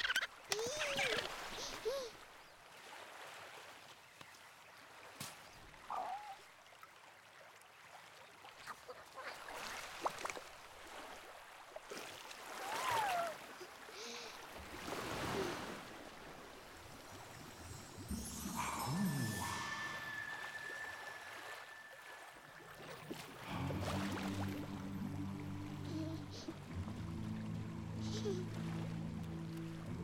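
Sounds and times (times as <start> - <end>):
water lapping on shore: 0.0 - 30.0.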